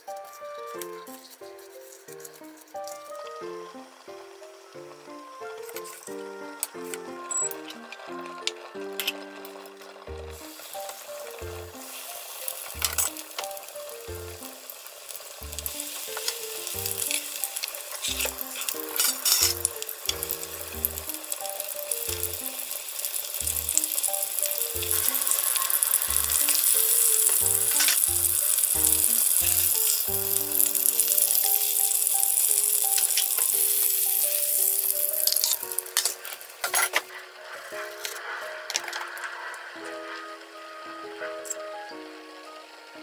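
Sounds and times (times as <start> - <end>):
background music: 0.0 - 43.0
cutlets sizzling in hot oil: 0.4 - 41.7.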